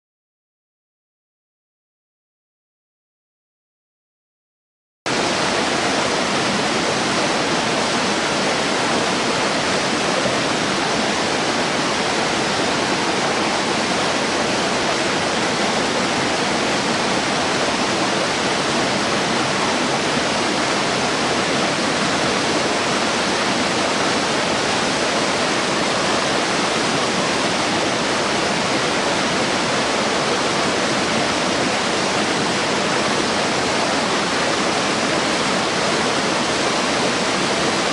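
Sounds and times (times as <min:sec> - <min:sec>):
waterfall rushing: 0:05.1 - 0:37.9.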